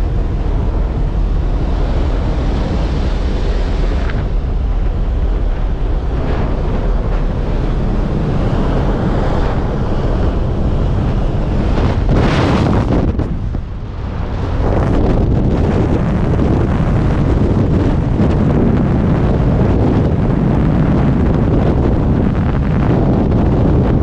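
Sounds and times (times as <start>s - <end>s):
aircraft engine noise: 0.0s - 24.0s
wind buffeting microphone: 0.0s - 24.0s
wind rushing: 0.0s - 24.0s.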